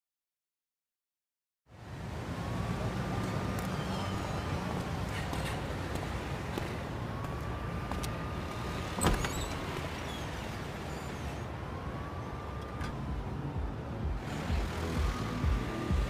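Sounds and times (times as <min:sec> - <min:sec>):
low traffic rumble: 0:01.7 - 0:16.0.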